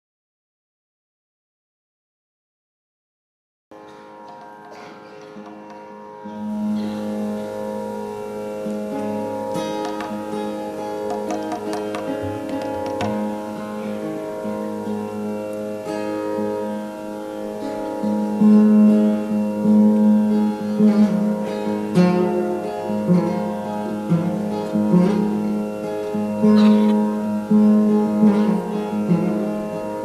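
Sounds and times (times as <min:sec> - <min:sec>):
plucked acoustic guitar: 0:03.8 - 0:30.0
steady held tones: 0:03.8 - 0:30.0.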